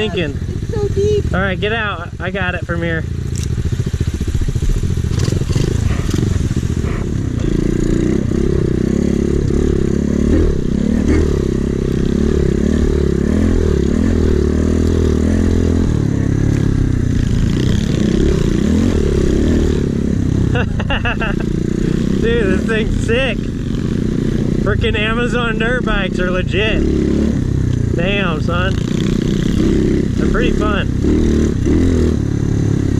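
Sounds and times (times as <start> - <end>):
pit bike engine revving: 0.0 - 32.9.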